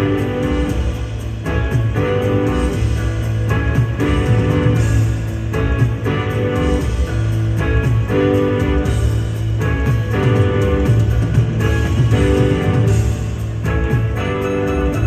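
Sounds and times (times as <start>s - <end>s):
bass line: 0.0s - 15.0s
electric guitar chords: 0.0s - 15.0s
keyboard chords: 0.0s - 15.0s.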